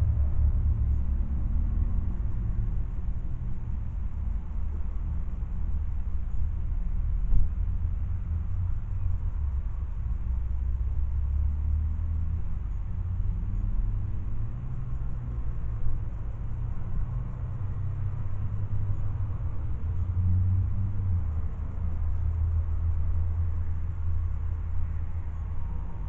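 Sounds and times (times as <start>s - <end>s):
car low rumble: 0.0s - 26.0s.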